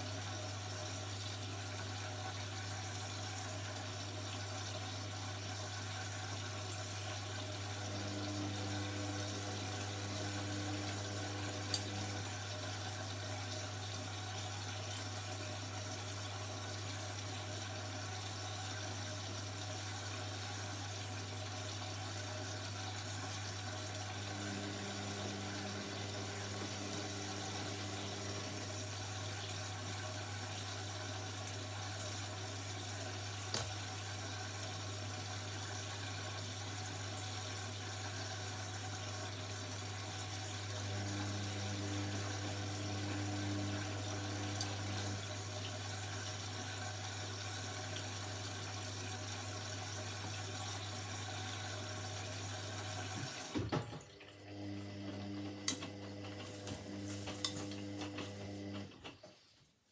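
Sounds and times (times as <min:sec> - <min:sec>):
washing machine low hum: 0:00.0 - 0:59.5.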